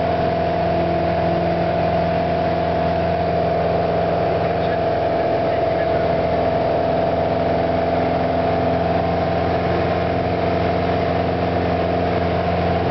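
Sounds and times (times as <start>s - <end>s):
aircraft engine and propeller drone: 0.0s - 12.9s.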